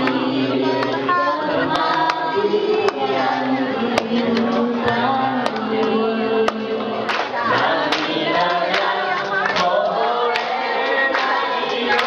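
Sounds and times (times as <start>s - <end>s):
voices singing through loudspeaker: 0.0s - 12.0s.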